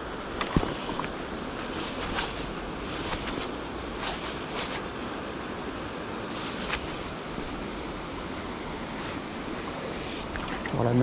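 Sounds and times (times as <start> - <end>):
water rushing over stones: 0.0 - 11.0.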